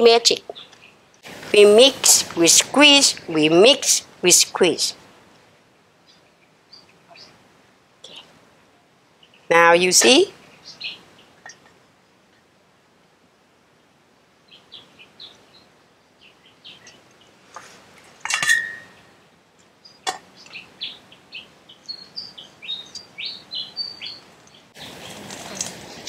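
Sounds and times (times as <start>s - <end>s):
small birds chirping: 0.0s - 5.0s, 5.9s - 12.6s, 13.7s - 26.0s.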